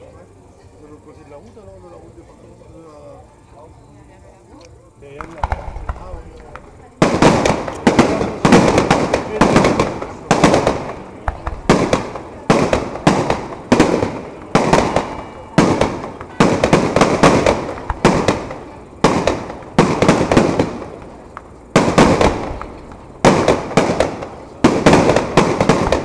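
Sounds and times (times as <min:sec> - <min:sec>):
fireworks bursting: 0:05.1 - 0:26.0.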